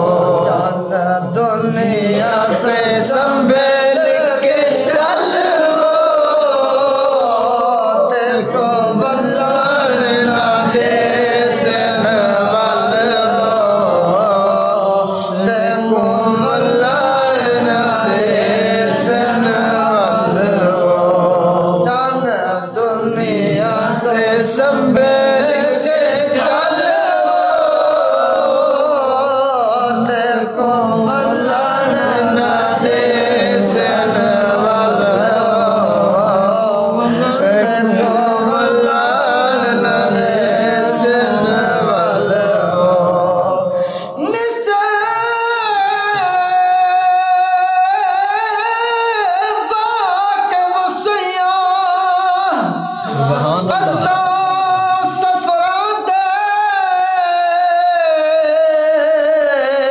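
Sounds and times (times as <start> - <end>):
devotional song sung in chant: 0.0 - 59.9.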